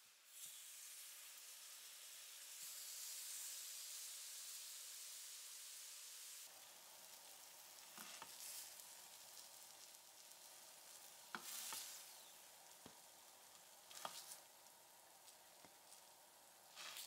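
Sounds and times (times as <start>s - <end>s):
bubbling sugar glaze: 0.0s - 17.0s
faint sizzling in a pan: 0.0s - 17.0s.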